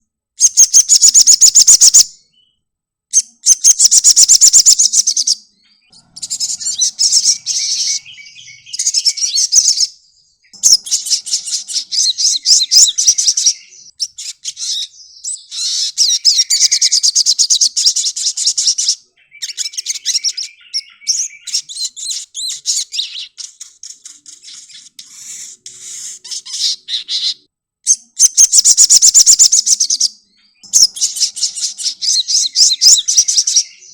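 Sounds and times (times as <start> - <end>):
bird twittering song: 0.4 - 33.9.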